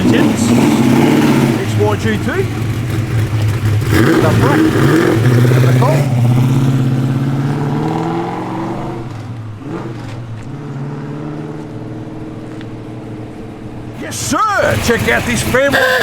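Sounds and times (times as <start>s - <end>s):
car engine pulling away: 0.0s - 16.0s.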